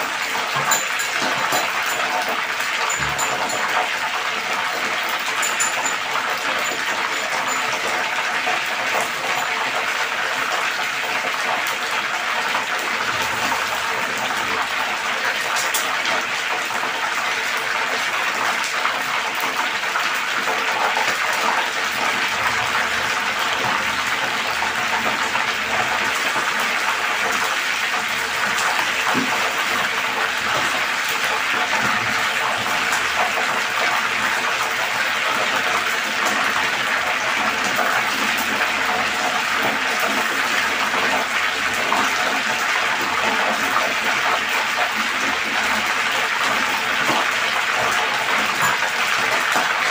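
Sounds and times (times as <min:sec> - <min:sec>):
fish deep-frying in hot oil: 0:00.0 - 0:49.9.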